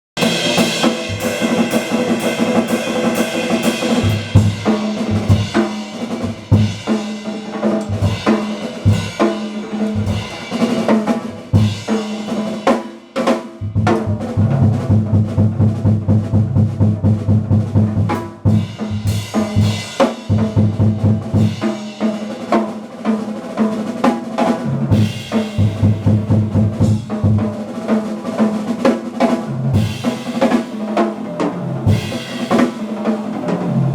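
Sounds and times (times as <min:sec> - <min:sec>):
drum kit playing jazz: 0:00.2 - 0:33.9.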